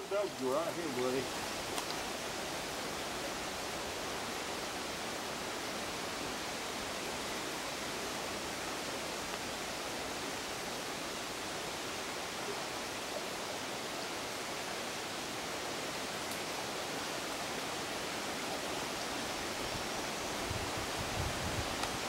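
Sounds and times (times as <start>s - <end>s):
creek water flowing over stones: 0.0s - 22.0s.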